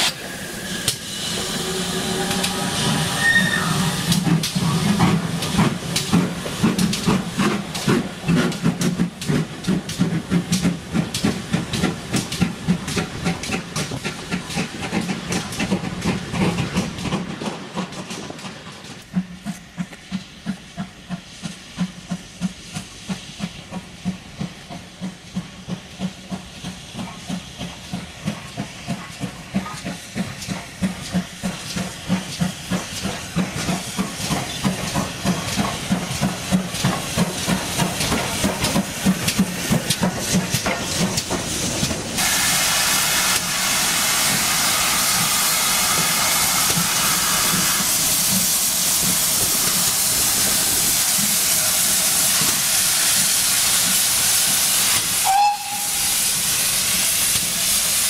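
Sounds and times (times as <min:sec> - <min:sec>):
steam hiss: 0:00.0 - 0:58.0
steam locomotive exhaust beats: 0:00.0 - 0:58.0.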